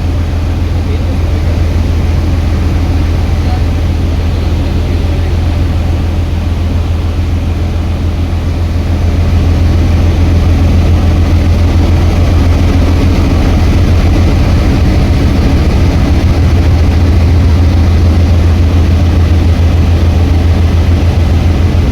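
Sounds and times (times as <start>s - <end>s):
ship engine droning: 0.0s - 21.9s.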